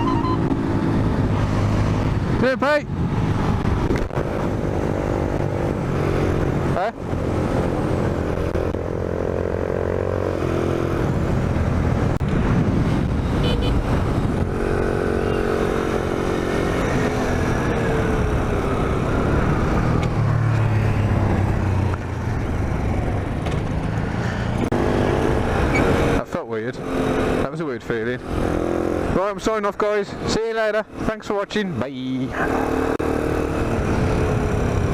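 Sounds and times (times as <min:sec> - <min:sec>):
wind rushing over microphone: 0:00.0 - 0:26.2, 0:32.2 - 0:34.9.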